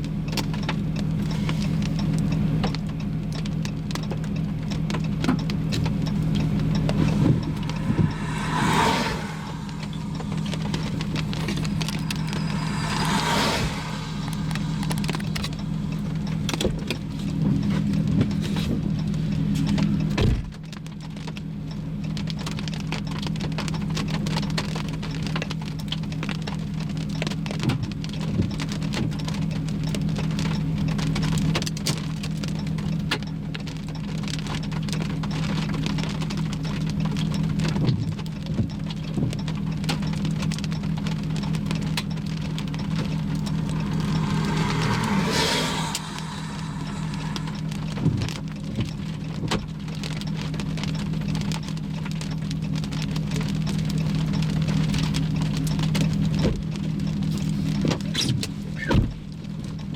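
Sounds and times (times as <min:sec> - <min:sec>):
rain drops ticking on vehicle: 0:00.0 - 0:08.5, 0:14.5 - 0:59.9
low engine hum: 0:00.0 - 0:59.9.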